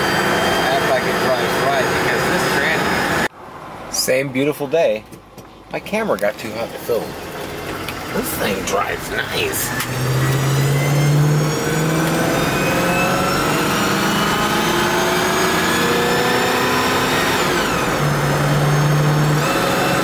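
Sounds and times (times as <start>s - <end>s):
car engine from inside cabin: 0.0s - 3.7s, 6.4s - 20.0s.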